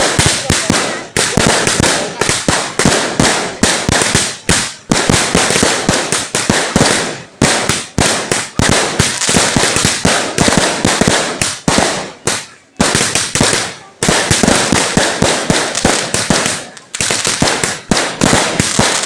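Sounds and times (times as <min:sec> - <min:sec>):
firecrackers banging: 0:00.0 - 0:19.0.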